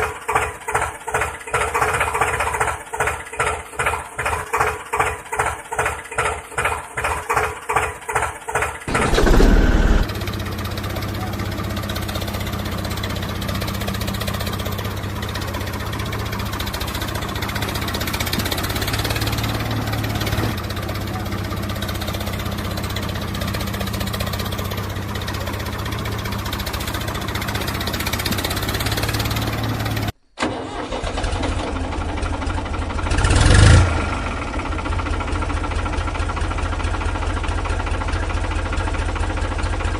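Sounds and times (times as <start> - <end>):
engine cranking and starting: 0.1 - 10.8, 11.7 - 36.6.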